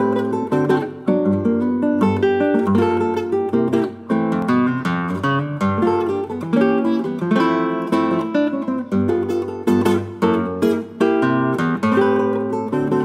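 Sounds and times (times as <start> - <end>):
fingerpicked classical guitar: 0.0 - 13.0.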